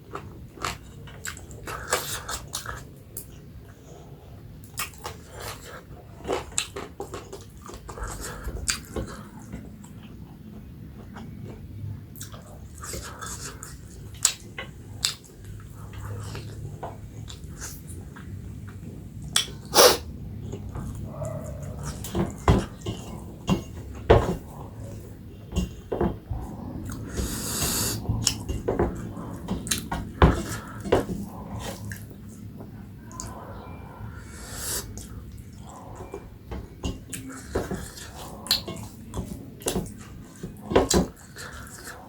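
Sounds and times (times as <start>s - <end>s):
person chewing and smacking: 0.0s - 3.6s, 4.6s - 19.8s, 20.4s - 33.8s, 34.5s - 42.0s.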